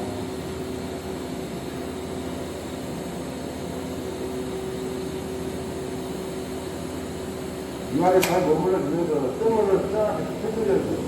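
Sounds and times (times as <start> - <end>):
welding machine hum: 0.0 - 11.0.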